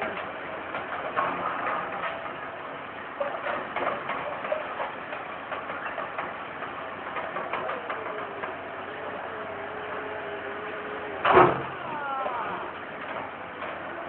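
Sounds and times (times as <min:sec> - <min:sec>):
excavator engine whine: 0:00.0 - 0:14.0.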